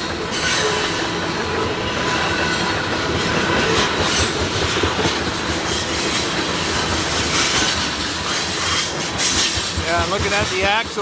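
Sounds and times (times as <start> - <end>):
train wheels clattering over rails: 0.0 - 11.0.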